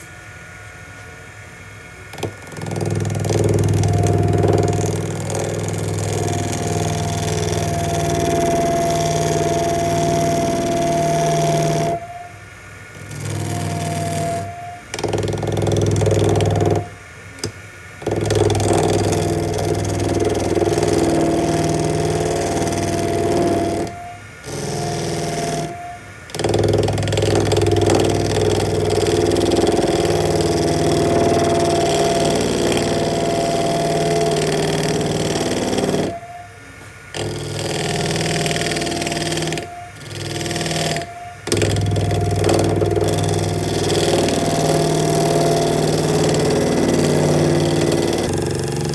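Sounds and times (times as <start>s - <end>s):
power tool motor whining: 2.0s - 48.9s.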